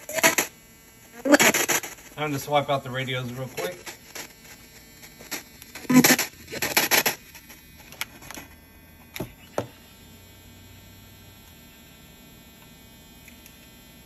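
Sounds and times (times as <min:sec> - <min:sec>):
noisy radio bursts: 0:00.0 - 0:14.0.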